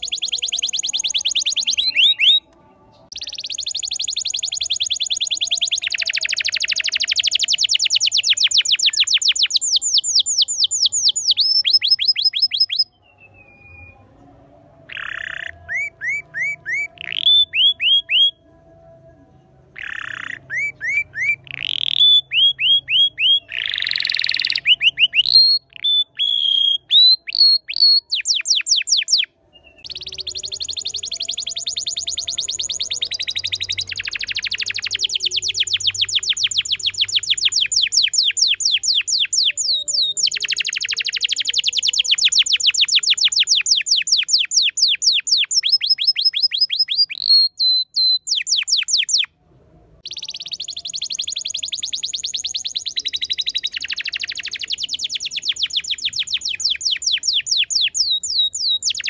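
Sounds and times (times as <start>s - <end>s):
bird singing: 0.0s - 49.3s, 50.0s - 59.0s.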